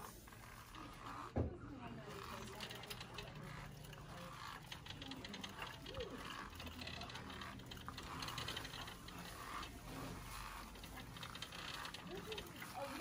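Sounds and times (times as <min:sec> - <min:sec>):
shopping cart wheels rattling: 0:01.9 - 0:13.0.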